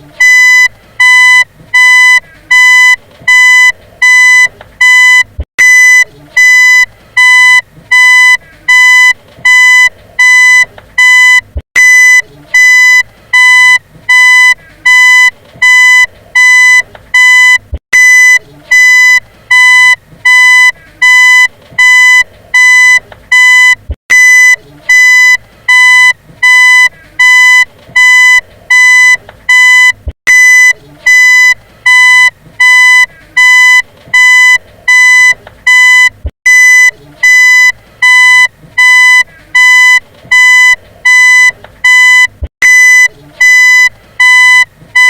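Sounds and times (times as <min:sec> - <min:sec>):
car reversing beeper: 0:00.2 - 0:45.0.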